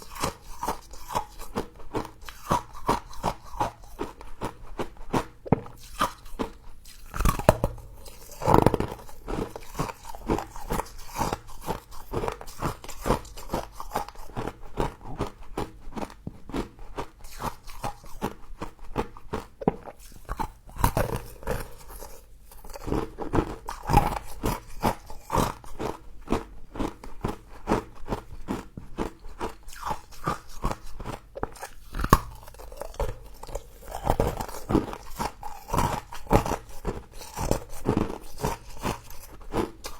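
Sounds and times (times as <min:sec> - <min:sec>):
crisp crunches of chewing: 0:00.0 - 0:39.9.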